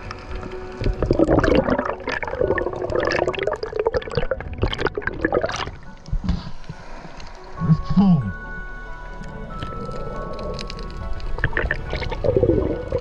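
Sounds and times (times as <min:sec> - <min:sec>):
underwater rushing water and bubbles: 0:00.0 - 0:07.6, 0:09.0 - 0:13.0.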